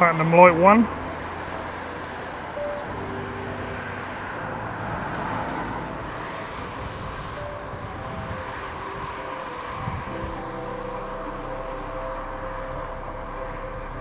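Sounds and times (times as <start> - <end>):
boat engine humming: 0.0 - 14.0
faint background music: 0.0 - 14.0.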